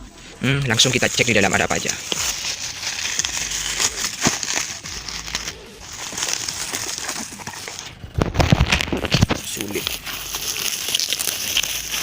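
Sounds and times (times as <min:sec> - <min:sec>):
packaging crinkling: 0:00.7 - 0:12.0.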